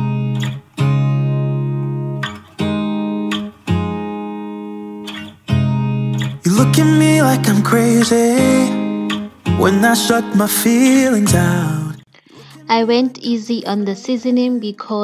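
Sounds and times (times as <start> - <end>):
guitar chords ringing: 0.0 - 13.2.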